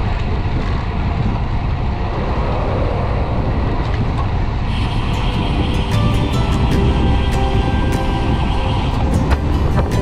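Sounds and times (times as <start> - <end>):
tyre noise on asphalt: 0.0 - 10.0
wind buffeting microphone: 0.0 - 10.0.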